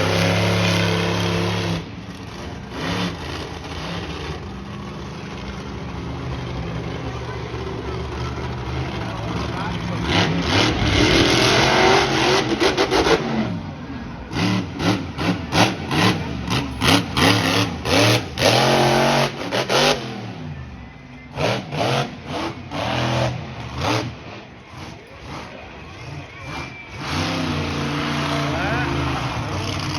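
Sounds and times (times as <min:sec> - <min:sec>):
monster truck engine revving: 0:00.0 - 0:29.9.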